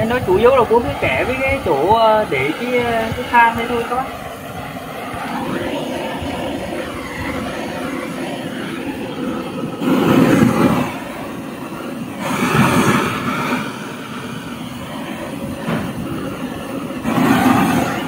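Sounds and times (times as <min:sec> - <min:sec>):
butane torch burning: 0:00.0 - 0:18.0.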